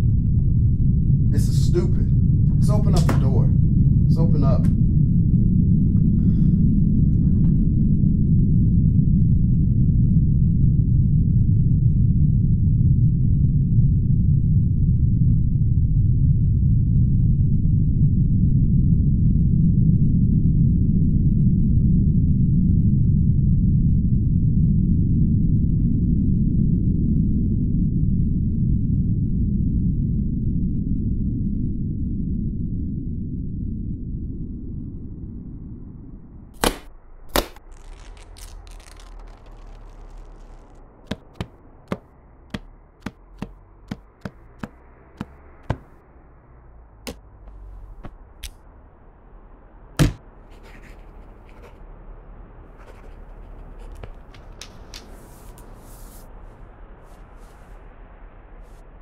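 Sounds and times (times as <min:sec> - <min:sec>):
low rumbling drone: 0:00.0 - 0:54.3.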